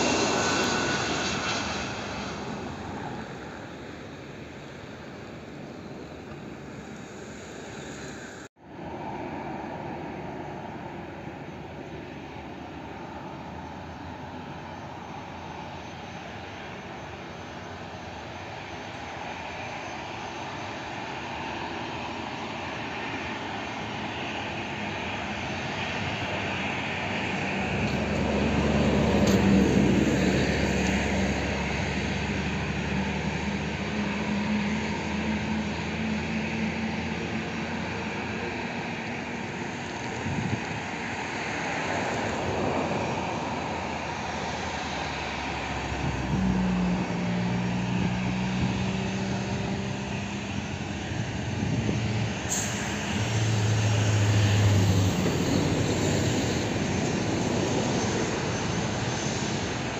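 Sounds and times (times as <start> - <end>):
jet engines whining and rumbling: 0.0 - 59.9.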